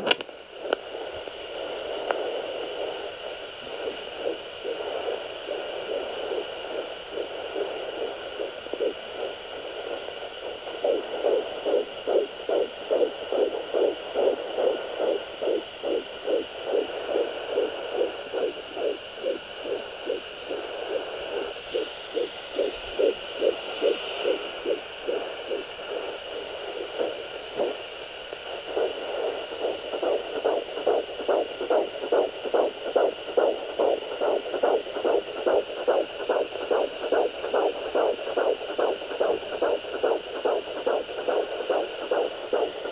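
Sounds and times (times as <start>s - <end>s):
fetal heartbeat whooshing pulses: 0.0s - 42.9s
steady electronic hiss: 0.0s - 42.9s.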